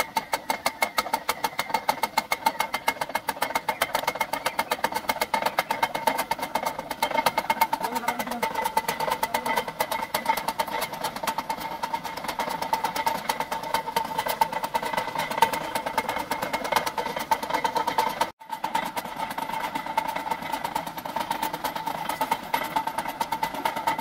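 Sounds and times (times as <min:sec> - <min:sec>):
generator whining and rattling: 0:00.0 - 0:24.0.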